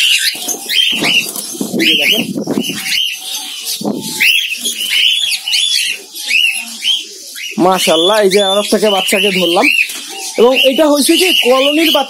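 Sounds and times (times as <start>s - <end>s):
cockatiels chirping: 0.0s - 12.0s.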